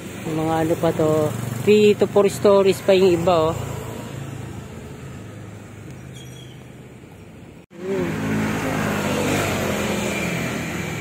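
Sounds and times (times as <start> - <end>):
street traffic engines humming: 0.0 - 11.0.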